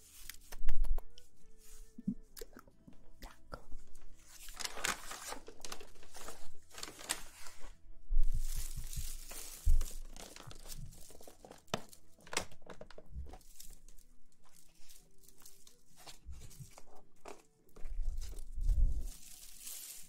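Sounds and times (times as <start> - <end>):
rustling and crinkling: 0.0 - 2.3, 2.9 - 20.0.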